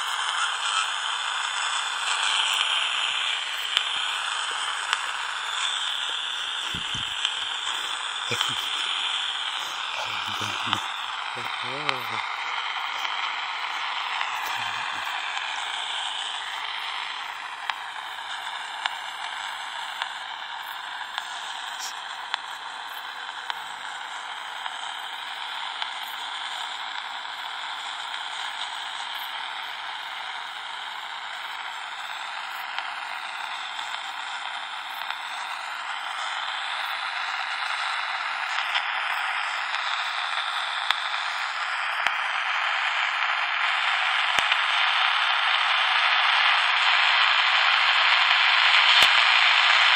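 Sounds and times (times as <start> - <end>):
walkie-talkie static hiss: 0.0 - 49.9.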